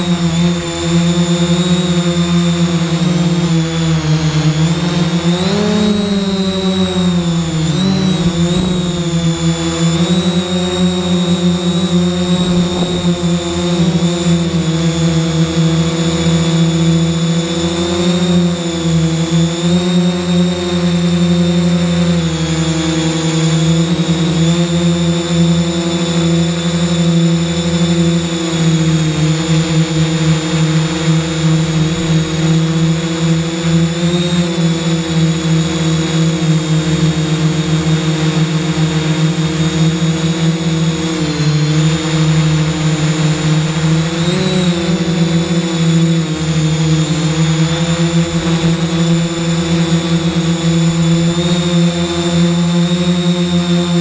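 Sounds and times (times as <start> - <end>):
drone motors and propellers droning: 0.0 - 54.0.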